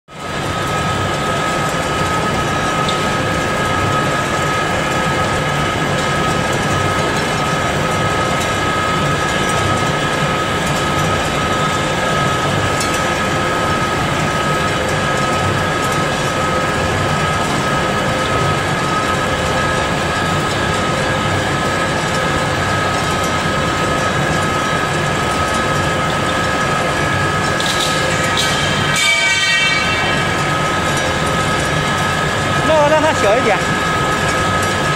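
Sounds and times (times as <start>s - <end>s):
constant machine whine: 0.1s - 34.9s
pellet mill machine drone: 0.1s - 34.9s.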